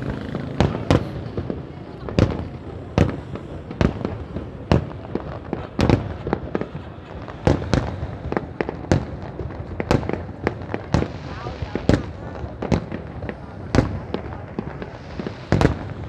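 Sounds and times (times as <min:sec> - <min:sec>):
continuous rumble: 0:00.0 - 0:16.0
fireworks booming: 0:00.0 - 0:16.0.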